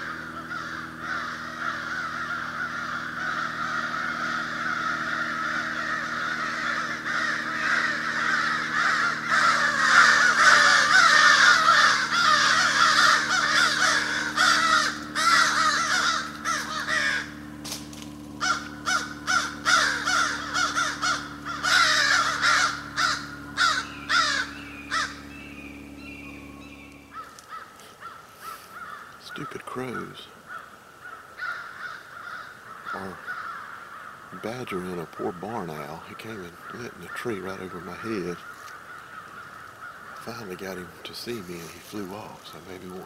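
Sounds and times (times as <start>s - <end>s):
crows cawing: 0.0s - 43.0s
steady low hum: 0.0s - 43.0s.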